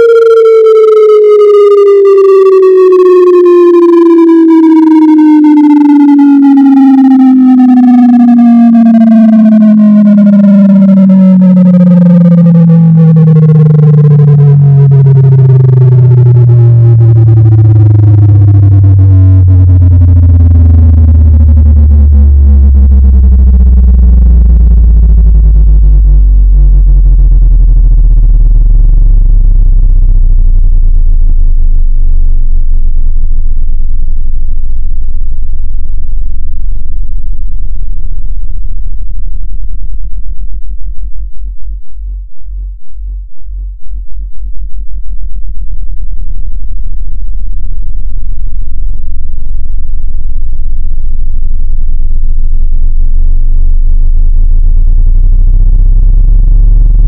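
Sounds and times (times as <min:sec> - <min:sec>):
low electronic tone gliding down: 0:00.0 - 0:57.0.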